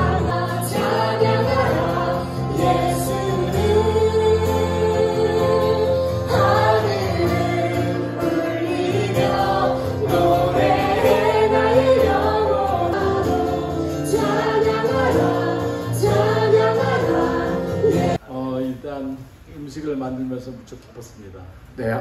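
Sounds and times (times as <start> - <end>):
acoustic guitar: 0.0 - 18.2
congregation singing: 0.0 - 18.2.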